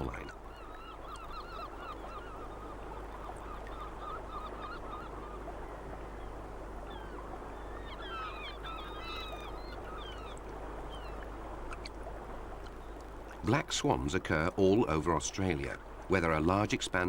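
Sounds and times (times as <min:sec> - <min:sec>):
steady background hiss: 0:00.0 - 0:17.0
waterbirds chattering calls: 0:00.0 - 0:17.0.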